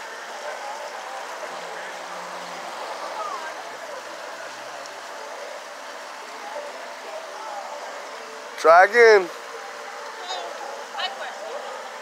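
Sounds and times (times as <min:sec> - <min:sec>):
faint distant voices: 0:00.0 - 0:12.0
outdoor background rush: 0:00.0 - 0:12.0.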